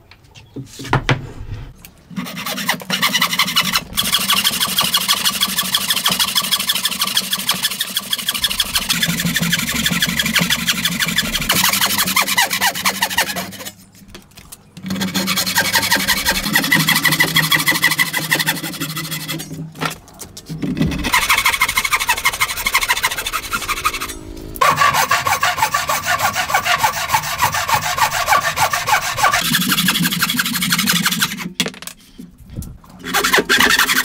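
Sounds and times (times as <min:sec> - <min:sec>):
saw rasping through wood: 0:02.1 - 0:13.8, 0:14.8 - 0:19.7, 0:20.7 - 0:31.5, 0:33.0 - 0:34.0.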